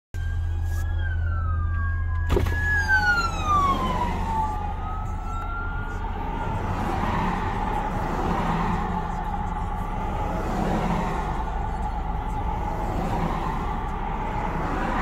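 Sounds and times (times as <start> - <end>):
police sirens wailing: 0.2 - 15.0.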